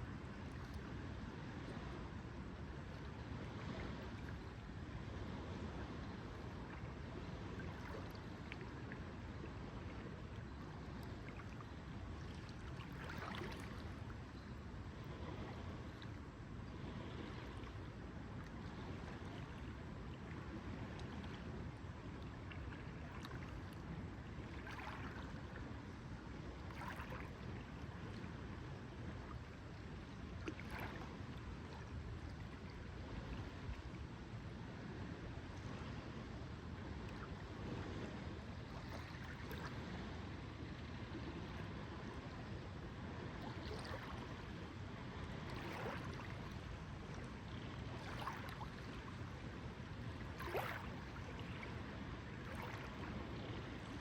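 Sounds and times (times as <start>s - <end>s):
small waves lapping: 0.0s - 54.0s.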